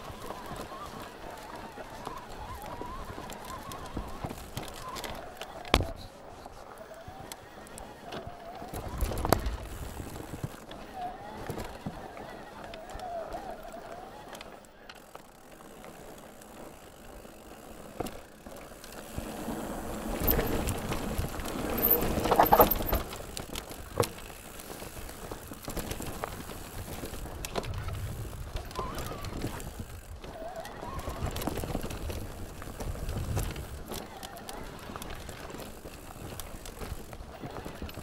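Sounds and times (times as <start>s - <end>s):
bike tyres on rough trail: 0.0s - 38.0s.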